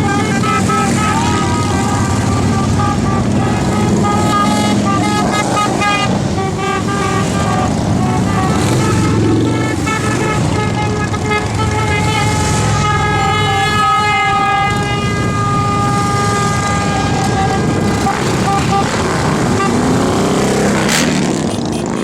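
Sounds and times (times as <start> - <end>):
motorcycle engines rumbling: 0.0 - 22.0
vehicle horns honking: 0.0 - 22.0.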